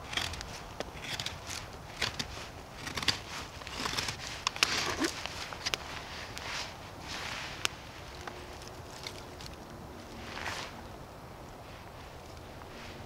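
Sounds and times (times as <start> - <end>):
twigs cracking: 0.0 - 10.8
footsteps in dry forest litter: 0.0 - 13.0.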